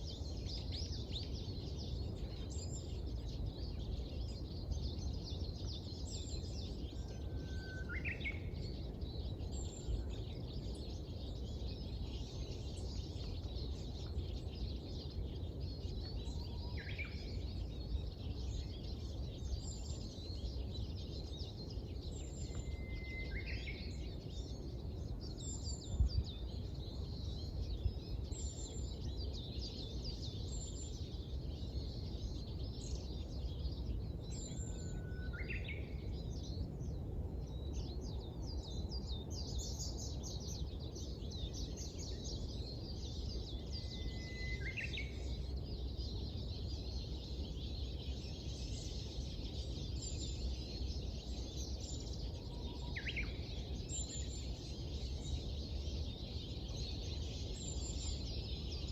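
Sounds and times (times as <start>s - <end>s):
clear whistled bird calls: 0.0s - 24.6s, 34.3s - 36.4s, 37.6s - 58.9s
small birds chirping and singing: 0.0s - 58.9s.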